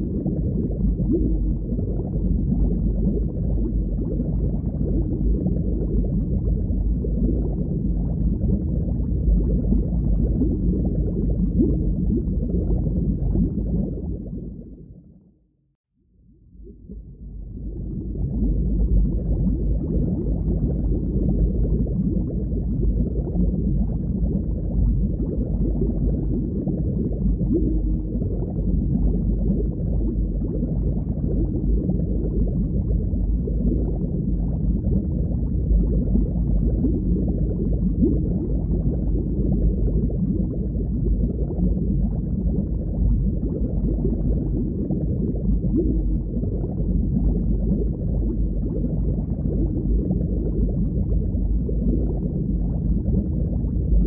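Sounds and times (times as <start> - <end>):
muffled underwater water rush: 0.0 - 15.4, 16.2 - 54.0.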